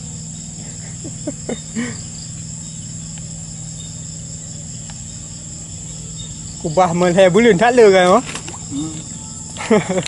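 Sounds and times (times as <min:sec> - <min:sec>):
insects chorus: 0:00.0 - 0:10.0
low hum: 0:00.0 - 0:10.0.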